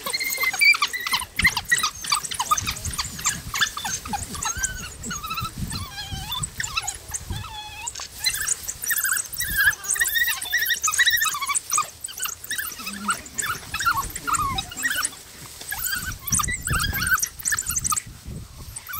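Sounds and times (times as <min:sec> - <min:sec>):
crunches of eating: 0:00.0 - 0:18.9
wild dogs squealing and twittering: 0:00.0 - 0:18.9.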